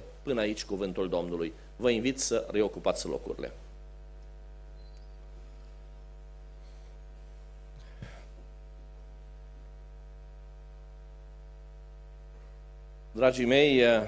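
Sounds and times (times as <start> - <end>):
low electrical mains hum: 0.0 - 14.0.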